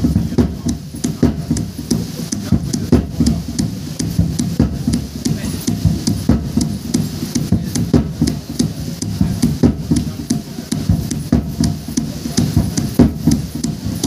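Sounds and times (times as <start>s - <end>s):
drum beating fast dance rhythm: 0.0s - 14.0s
sharp high ticks: 0.0s - 14.0s.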